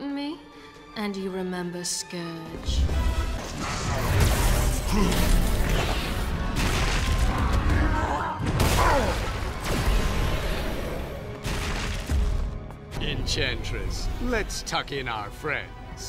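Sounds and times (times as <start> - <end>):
action music score: 0.0 - 16.0.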